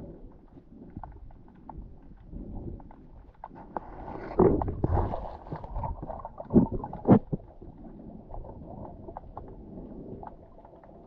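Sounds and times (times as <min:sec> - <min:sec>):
low rumble of moving water: 0:00.0 - 0:11.0.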